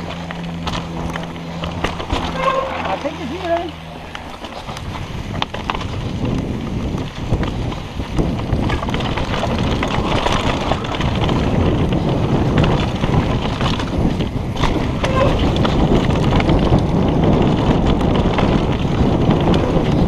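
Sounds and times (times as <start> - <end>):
bike rattling: 0.0 - 20.0
bike tyres crunching on dirt: 0.0 - 20.0
wind buffeting microphone: 0.0 - 20.0.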